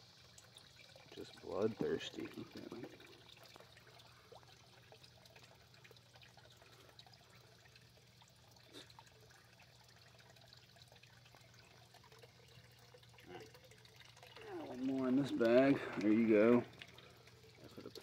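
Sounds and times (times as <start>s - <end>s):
faint pond water: 0.0s - 18.0s.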